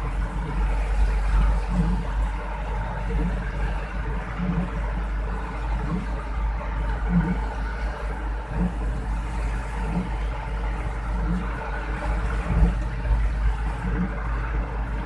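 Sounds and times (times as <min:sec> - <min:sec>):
hiss of rain on vehicle: 0:00.0 - 0:15.0
vehicle engine and road noise: 0:00.0 - 0:15.0.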